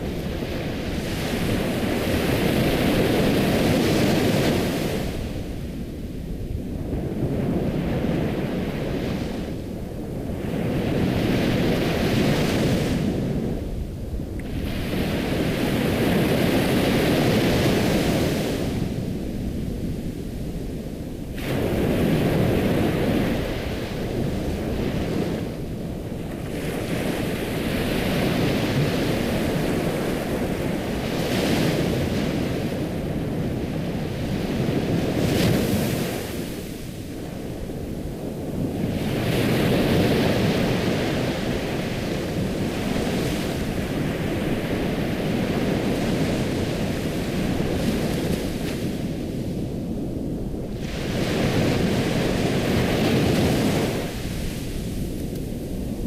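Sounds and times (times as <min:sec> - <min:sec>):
ocean waves washing in: 0:00.0 - 0:56.0.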